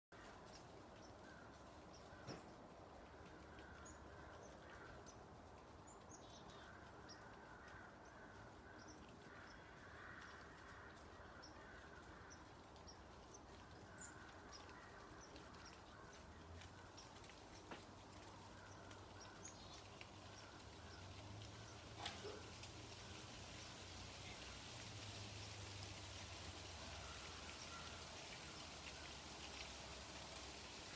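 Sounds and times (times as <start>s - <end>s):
distant bird calls: 0.2s - 29.7s.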